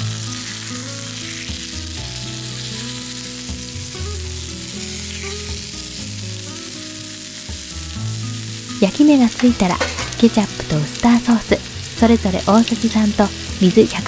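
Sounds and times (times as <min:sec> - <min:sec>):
background music: 0:00.0 - 0:14.0
patties sizzling in frying pan: 0:00.0 - 0:14.0.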